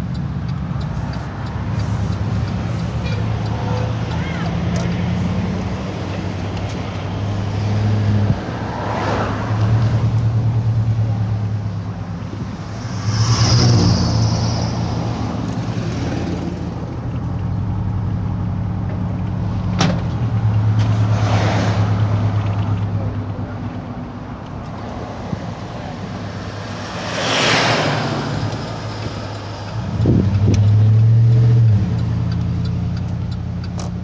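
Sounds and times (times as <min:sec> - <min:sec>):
car engine hum and road noise: 0:00.0 - 0:34.0.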